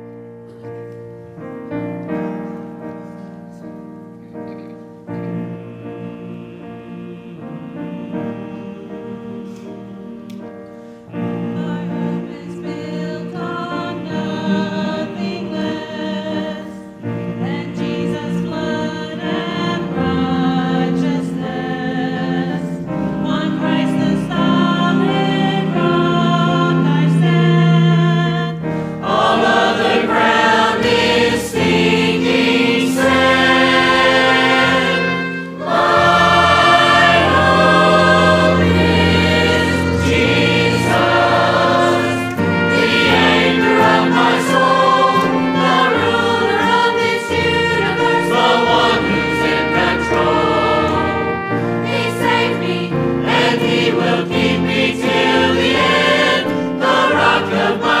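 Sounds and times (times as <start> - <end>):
choir singing gospel: 5.0 - 58.0.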